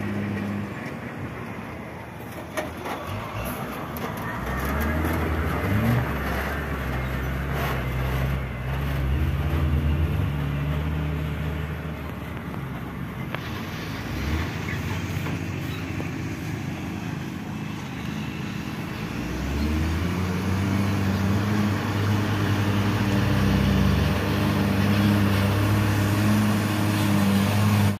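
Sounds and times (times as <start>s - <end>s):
dump truck diesel engine: 0.0s - 27.9s.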